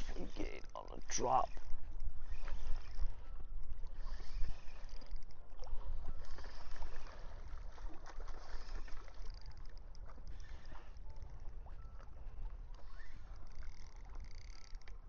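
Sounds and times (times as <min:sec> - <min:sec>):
small waves lapping at shore: 0:00.0 - 0:15.0.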